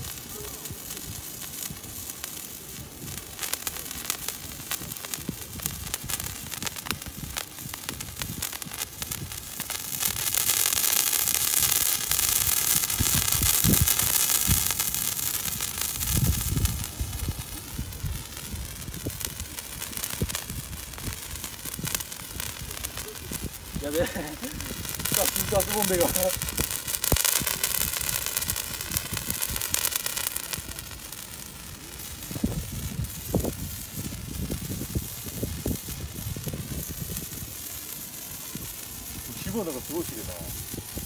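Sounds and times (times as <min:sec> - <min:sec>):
firework sparks hissing and crackling: 0:00.0 - 0:41.0.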